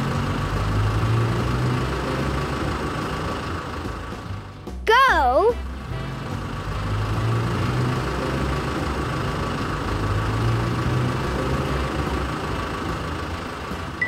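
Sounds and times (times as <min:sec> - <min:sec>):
road noise: 0:00.0 - 0:14.0
vehicle engines humming: 0:00.0 - 0:14.0.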